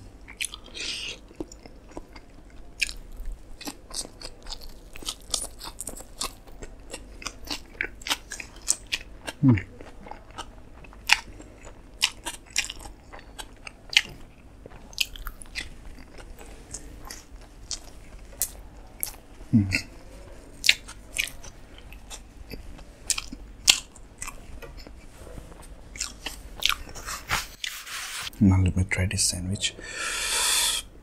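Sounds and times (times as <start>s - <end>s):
person chewing food: 0.1s - 27.8s.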